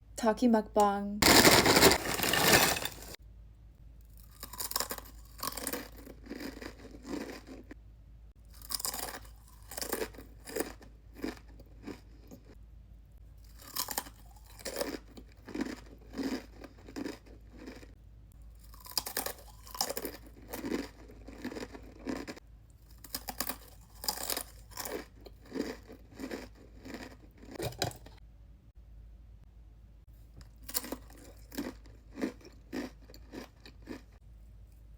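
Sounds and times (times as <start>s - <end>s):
chewing crunchy chips: 1.2s - 3.2s, 4.1s - 7.8s, 8.4s - 12.6s, 13.4s - 28.2s, 30.5s - 34.2s.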